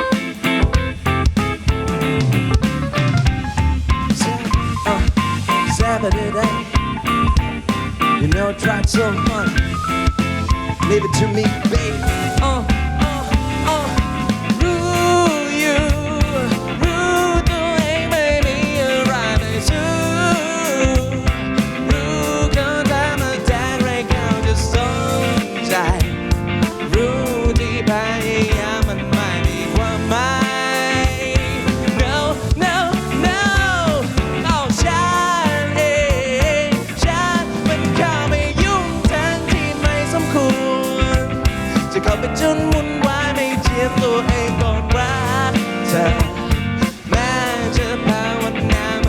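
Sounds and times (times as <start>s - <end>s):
band playing pop-rock: 0.0s - 49.0s
drum beat: 0.0s - 49.0s
electric guitar: 0.0s - 49.0s.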